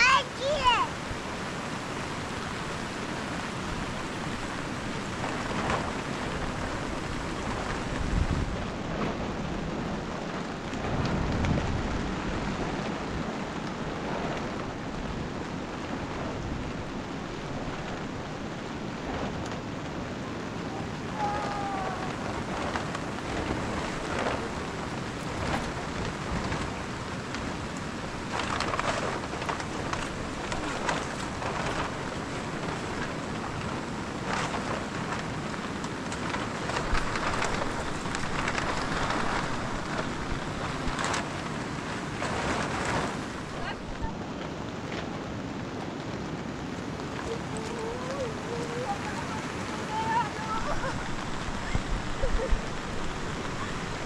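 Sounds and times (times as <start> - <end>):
low rumbles: 0.0 - 54.0
steady rain falling: 0.0 - 54.0.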